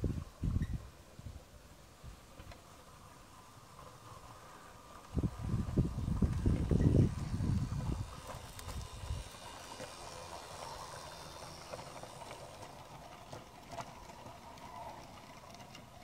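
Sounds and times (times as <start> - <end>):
model train wheels clicking: 2.2 - 16.0.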